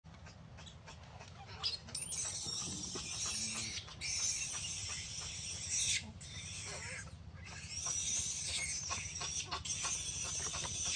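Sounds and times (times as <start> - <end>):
baby monkey screaming: 1.4 - 10.9.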